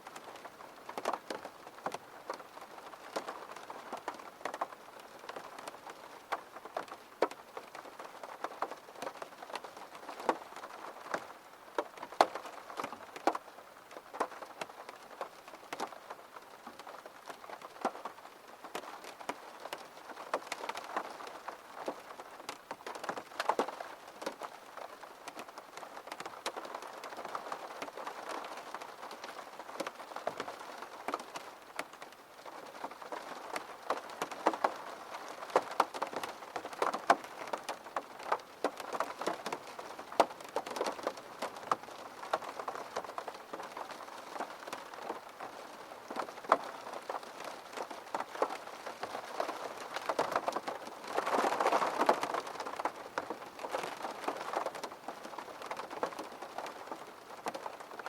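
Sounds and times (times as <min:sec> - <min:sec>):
raindrops tapping: 0:00.0 - 0:58.0
steady rain: 0:00.0 - 0:58.0.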